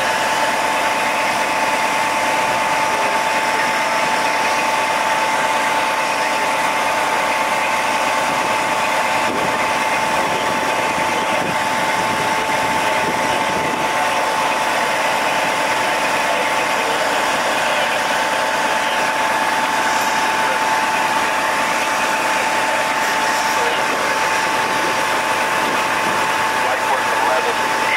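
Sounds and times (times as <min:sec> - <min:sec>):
machinery whine and hum: 0:00.0 - 0:27.9.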